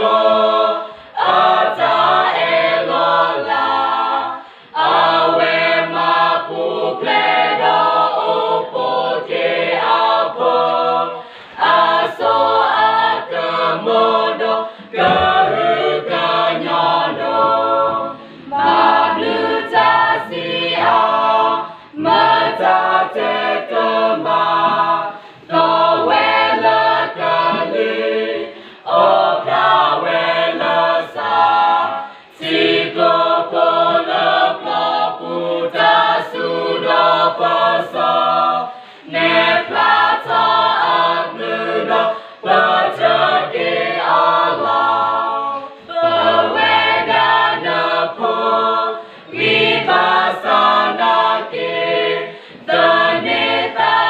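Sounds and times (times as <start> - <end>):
choir singing unaccompanied: 0.0 - 54.0.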